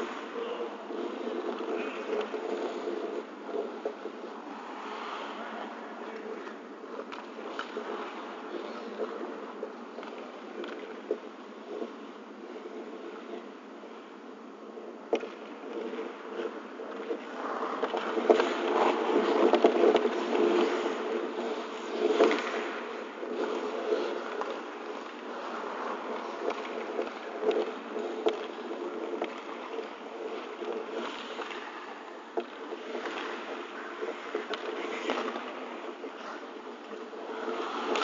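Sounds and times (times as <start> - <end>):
hockey sticks and puck clacking: 0.0 - 12.0, 15.1 - 38.0
skates scraping on ice: 0.0 - 14.0, 14.8 - 38.0.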